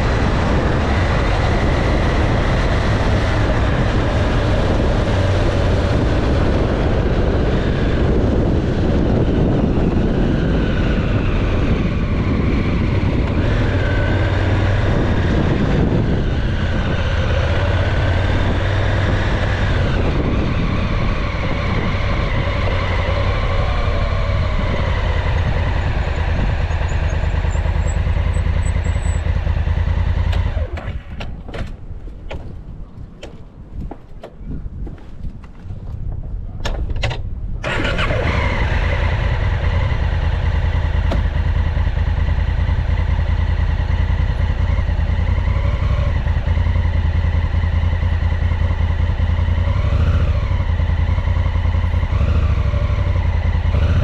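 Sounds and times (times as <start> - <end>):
motorcycle engine running: 0.0 - 31.2, 37.6 - 54.0
rush of wind noise: 0.0 - 54.0.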